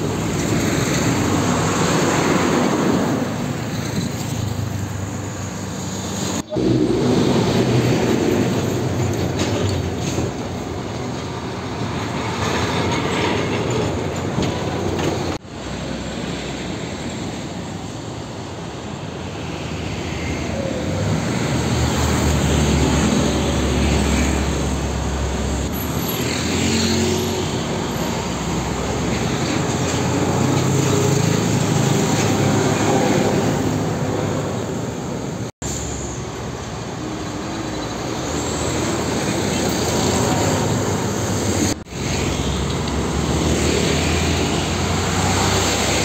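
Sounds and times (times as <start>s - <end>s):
diesel trucks driving past: 0.0s - 46.0s
tyre and traffic noise: 0.0s - 46.0s.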